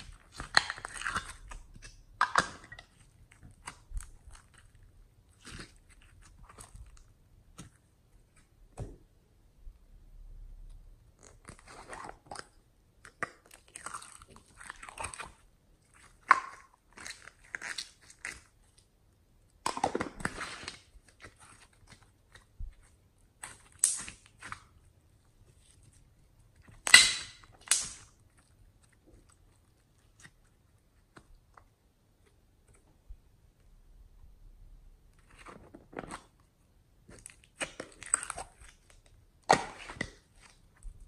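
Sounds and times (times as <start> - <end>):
slime crackling and squelching: 0.0 - 8.8, 11.0 - 32.8, 35.0 - 41.0.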